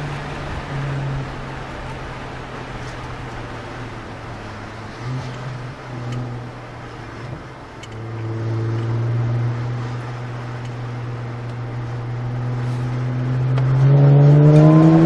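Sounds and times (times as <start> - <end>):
car exhaust low note: 0.0 - 15.0.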